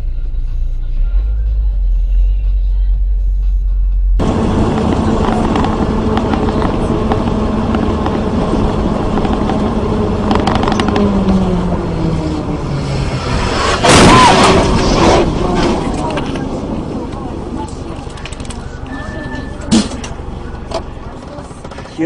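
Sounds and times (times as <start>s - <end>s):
car tyre and engine noise: 4.2s - 22.0s.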